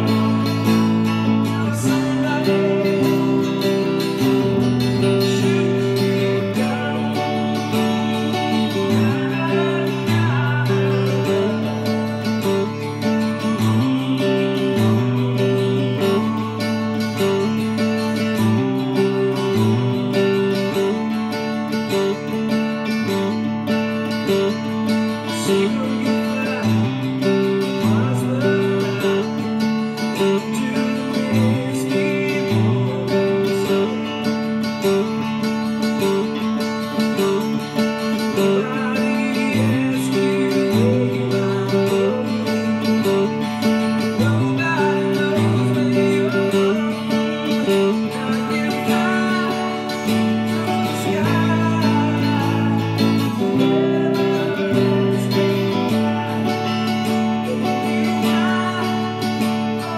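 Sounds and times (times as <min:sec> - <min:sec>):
electric guitar rock ballad: 0:00.0 - 0:59.9.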